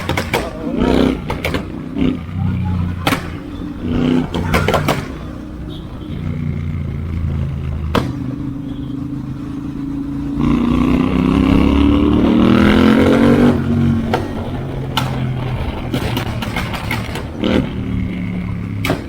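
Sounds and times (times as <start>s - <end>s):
motorcycle engine revving: 0.0s - 19.0s
sharp exhaust crack: 0.0s - 19.0s.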